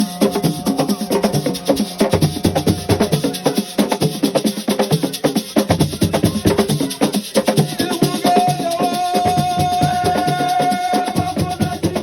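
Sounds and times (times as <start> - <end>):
drum ensemble playing fast rhythm: 0.0 - 12.0.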